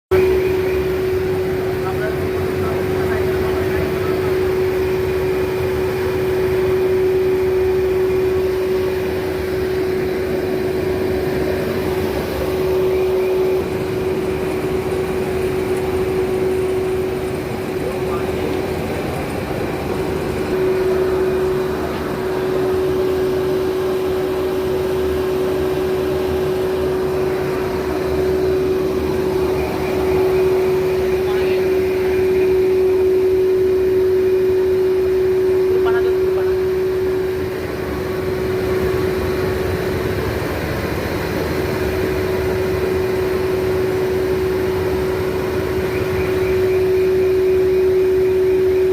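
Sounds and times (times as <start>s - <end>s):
steam boiler running: 0.1s - 48.9s.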